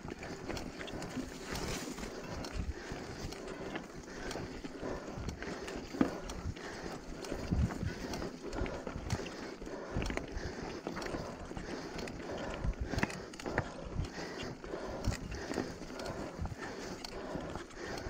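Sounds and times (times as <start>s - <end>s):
bike rattling and knocking: 0.0s - 18.0s.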